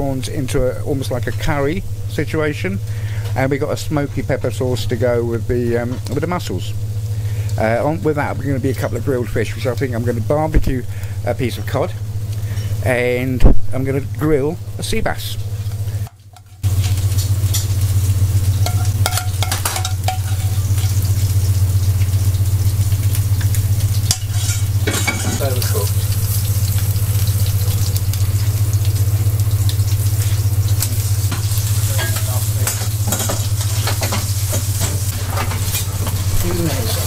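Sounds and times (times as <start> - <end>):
seafood sizzling on a grill: 0.0 - 37.0
steady low hum: 0.0 - 37.0.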